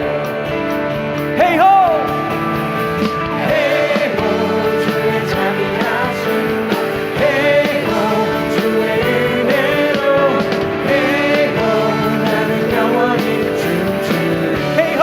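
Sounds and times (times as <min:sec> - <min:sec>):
people singing: 0:00.0 - 0:15.0
worship band playing: 0:00.0 - 0:15.0.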